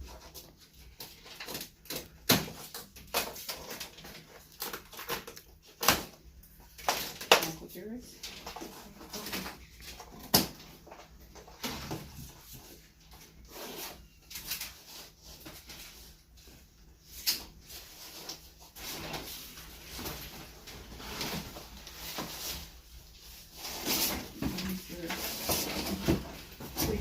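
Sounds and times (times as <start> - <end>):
knocks and scrapes unpacking refrigerator: 0.0 - 7.6, 8.2 - 27.0.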